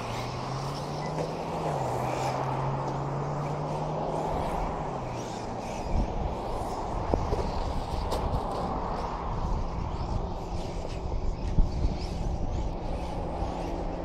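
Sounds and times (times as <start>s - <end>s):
rc trucks whining: 0.0s - 14.0s.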